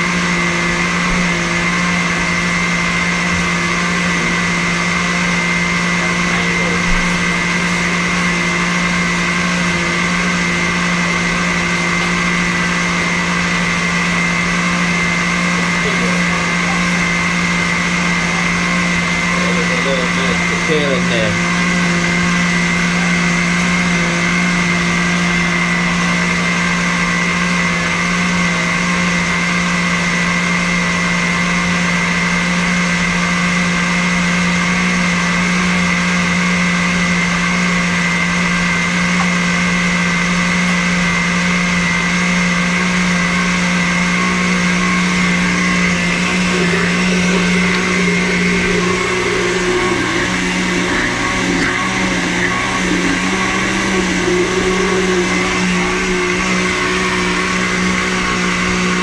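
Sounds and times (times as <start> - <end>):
blender motor running: 0.0 - 59.0.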